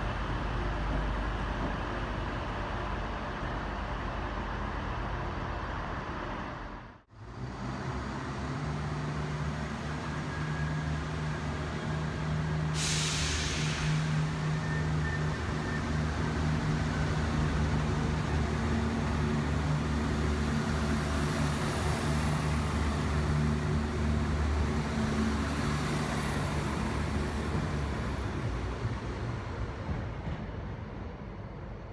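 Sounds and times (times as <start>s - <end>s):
train diesel engines running: 0.0s - 31.9s.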